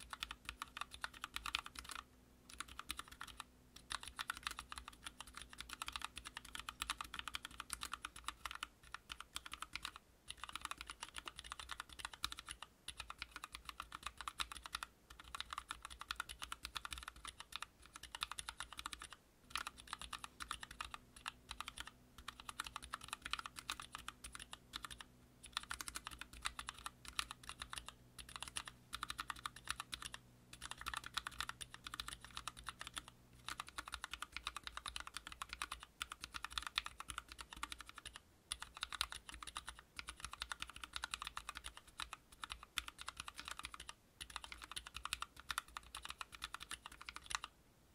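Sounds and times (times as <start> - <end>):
mechanical keyboard typing: 0.0 - 47.5.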